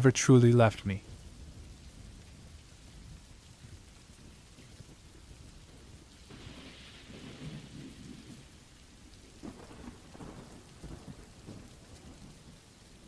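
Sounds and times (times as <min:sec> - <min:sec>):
steady rainfall: 0:00.0 - 0:13.0
thunder rumbling: 0:01.0 - 0:13.0.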